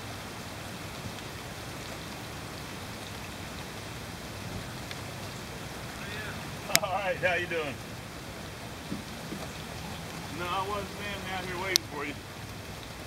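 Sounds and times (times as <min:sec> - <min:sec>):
rain on grass and leaves: 0:00.0 - 0:13.0
raindrop ticks: 0:00.0 - 0:13.0.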